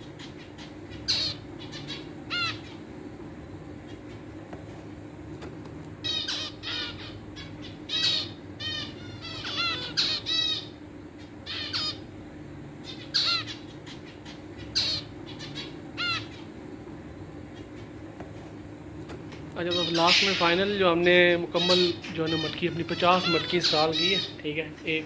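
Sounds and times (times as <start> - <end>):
harsh bird calls: 0.0 - 25.0
steady low hum: 0.0 - 25.0.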